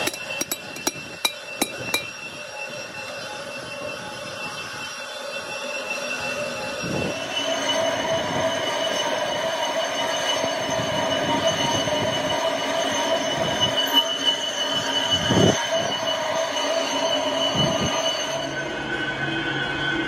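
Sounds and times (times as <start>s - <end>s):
high-pitched machine whine: 0.0s - 20.0s.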